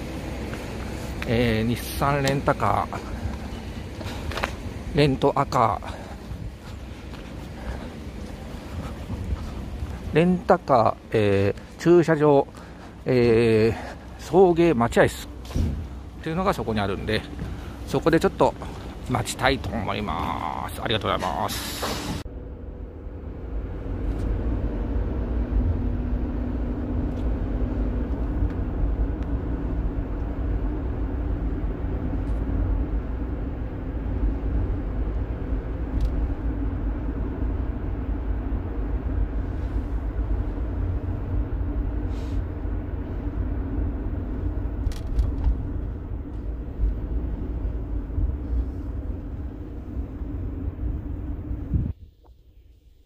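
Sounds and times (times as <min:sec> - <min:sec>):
vehicle cabin road rumble: 0:00.0 - 0:53.0.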